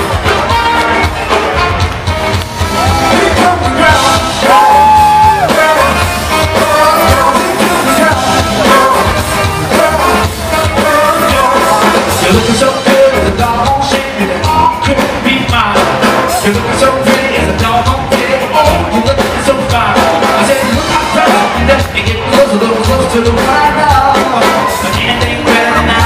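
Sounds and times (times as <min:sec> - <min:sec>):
live funk band playing: 0:00.0 - 0:26.0.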